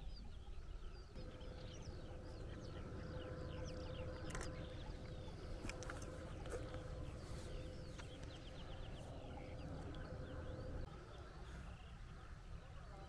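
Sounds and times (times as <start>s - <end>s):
faint steady hum: 0.0s - 13.0s
small birds chirping: 0.0s - 13.0s
low rumble: 0.8s - 12.9s.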